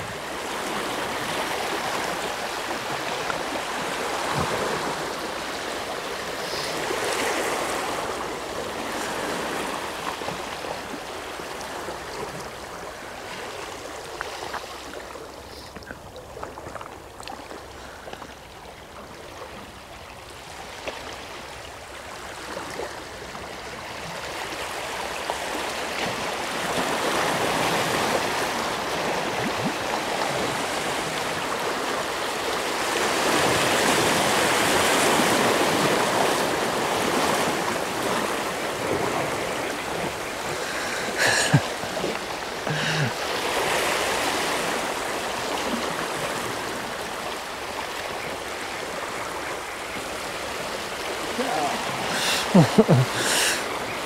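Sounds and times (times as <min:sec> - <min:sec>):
small waves lapping over rocks: 0:00.0 - 0:54.0.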